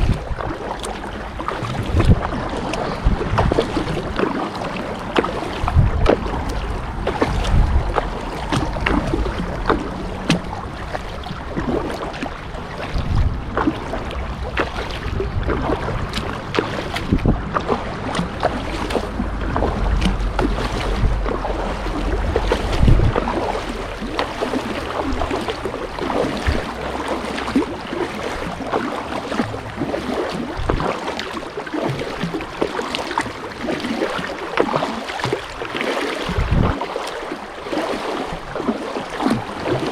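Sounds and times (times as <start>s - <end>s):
water splashing against kayak hull: 0.0s - 39.9s
wind rumbling on microphone: 0.0s - 39.9s.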